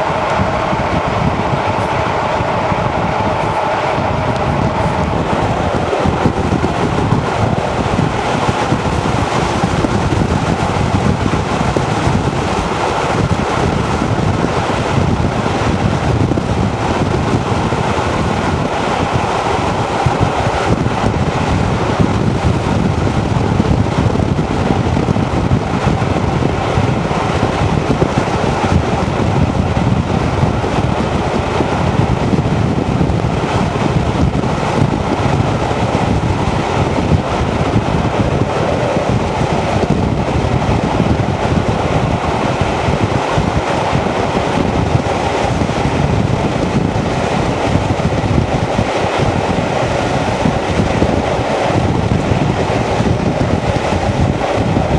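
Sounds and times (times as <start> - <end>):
train running noise: 0.0 - 54.9
wind buffeting microphone: 0.0 - 54.9.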